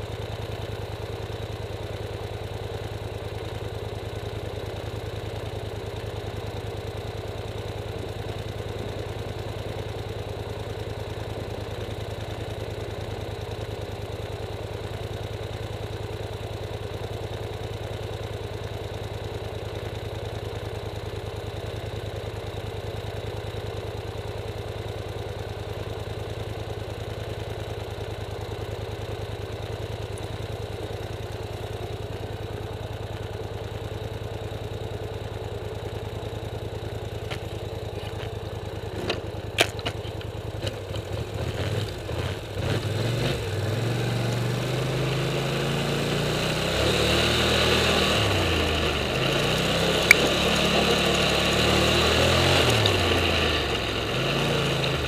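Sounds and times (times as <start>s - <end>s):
atv engine idling: 0.0s - 55.0s.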